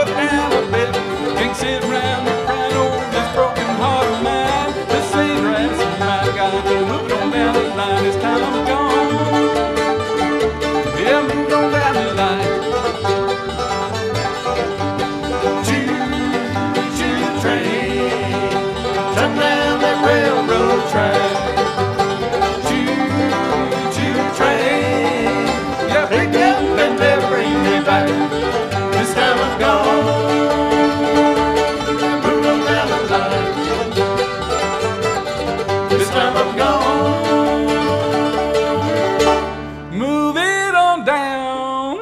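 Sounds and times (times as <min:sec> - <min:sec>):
bluegrass band playing: 0:00.0 - 0:40.9.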